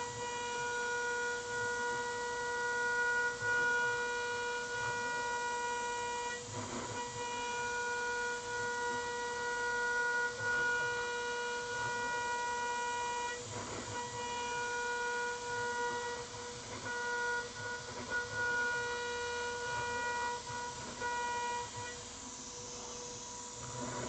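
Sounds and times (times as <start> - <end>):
end mill cutting metal: 0.0 - 24.0
router spindle high whine: 0.0 - 24.0.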